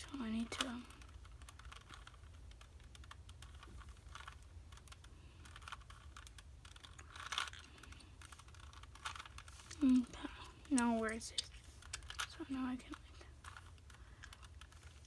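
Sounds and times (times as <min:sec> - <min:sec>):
low steady hum: 0:00.0 - 0:15.0
plastic puzzle cube clicking: 0:00.1 - 0:15.0.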